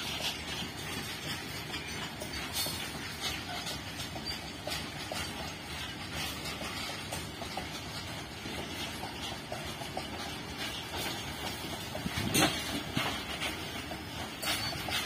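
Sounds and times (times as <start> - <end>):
freight train rumbling: 0.0 - 15.0
wheels clicking over rail joints: 0.0 - 15.0.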